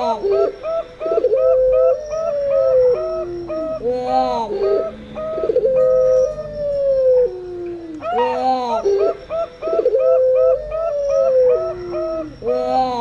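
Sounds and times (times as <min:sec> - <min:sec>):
dove long drawn-out coo: 0:00.0 - 0:13.0
doves cooing short high notes: 0:00.0 - 0:13.0.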